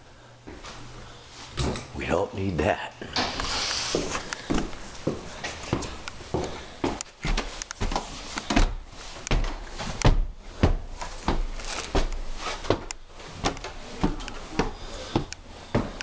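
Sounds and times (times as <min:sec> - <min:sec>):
footsteps on floor: 0:00.4 - 0:01.8, 0:03.0 - 0:16.0.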